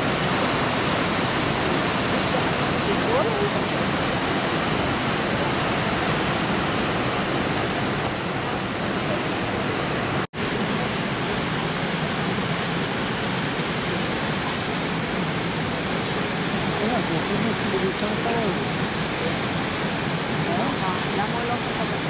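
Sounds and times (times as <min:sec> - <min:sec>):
fast river water rushing: 0:00.0 - 0:22.0.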